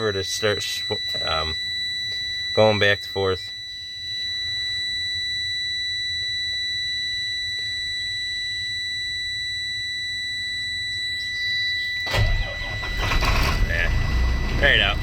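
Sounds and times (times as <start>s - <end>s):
dashboard warning buzzer: 0.0s - 15.0s
steady low hum: 0.0s - 15.0s.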